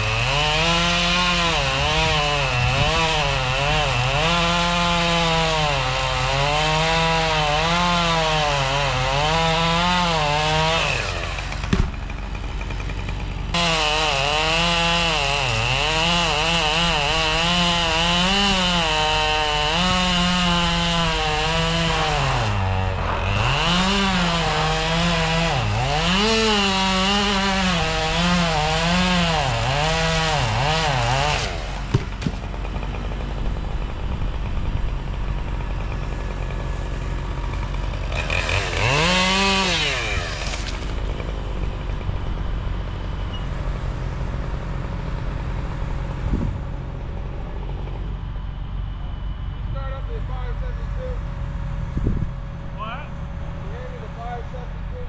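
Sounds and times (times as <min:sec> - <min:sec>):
chainsaw cutting wood: 0:00.0 - 0:42.9, 0:43.5 - 0:48.2.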